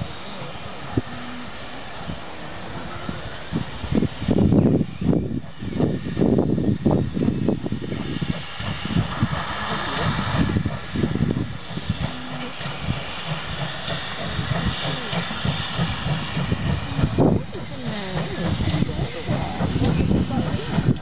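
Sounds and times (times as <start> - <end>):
low rumble of locomotive: 0.0 - 21.0
steam hissing: 0.0 - 21.0.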